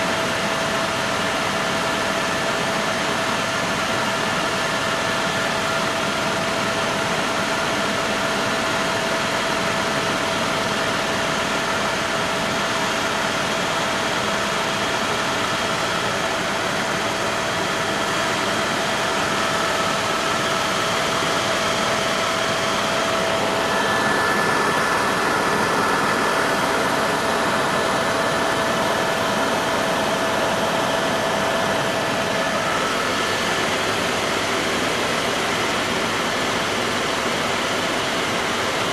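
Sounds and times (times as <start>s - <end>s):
helicopter cabin noise: 2.8s - 38.8s.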